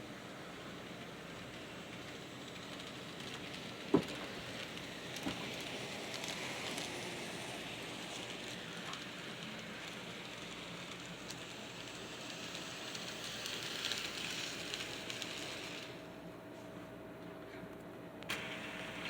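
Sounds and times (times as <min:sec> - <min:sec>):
model train running on track: 0:00.0 - 0:16.2, 0:18.3 - 0:19.0.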